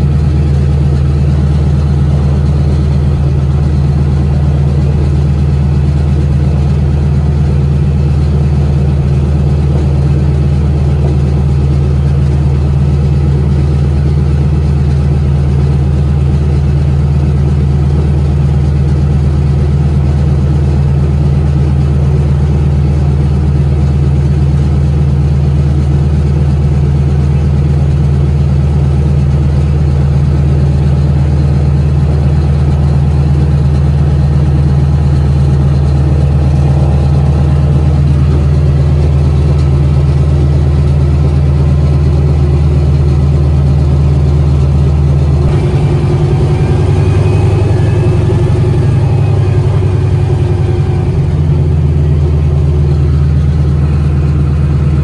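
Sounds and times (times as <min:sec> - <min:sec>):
radial aircraft engine running: 0:00.0 - 0:55.0.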